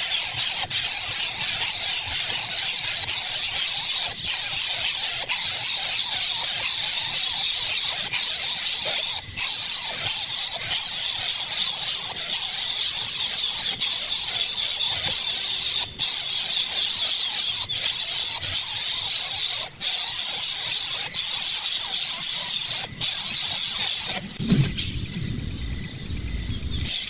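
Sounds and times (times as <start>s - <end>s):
chorus of insects: 0.0s - 27.0s
insect pulsing trill: 0.0s - 27.0s.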